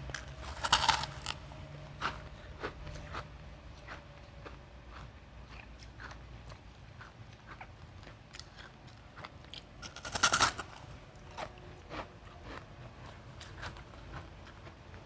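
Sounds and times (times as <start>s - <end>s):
ice being chewed: 0.0s - 3.2s, 3.8s - 14.8s.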